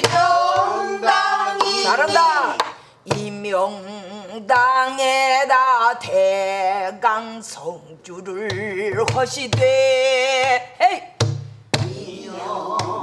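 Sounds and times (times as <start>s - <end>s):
woman singing with vibrato: 0.0s - 11.2s.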